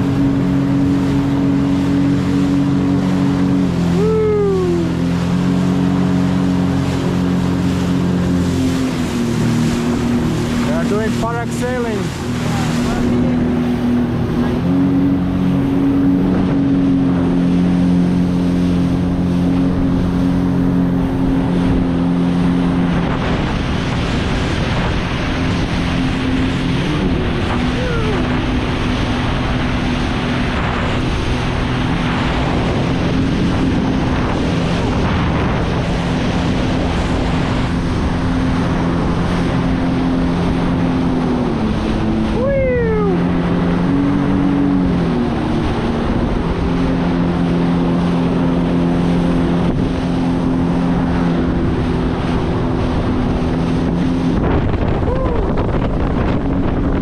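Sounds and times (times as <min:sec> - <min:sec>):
jet ski engine running: 0:00.0 - 0:57.0.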